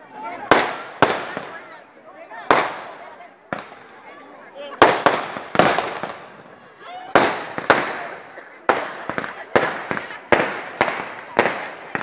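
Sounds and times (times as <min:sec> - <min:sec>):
fireworks bangs: 0:00.4 - 0:01.8, 0:02.4 - 0:04.1, 0:04.7 - 0:12.0.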